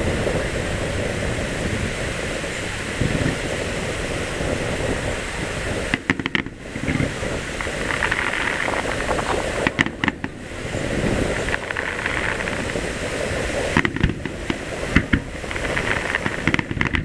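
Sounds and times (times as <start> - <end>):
fireworks bangs: 0.0 - 17.0
fireworks crackling hiss: 0.0 - 17.0.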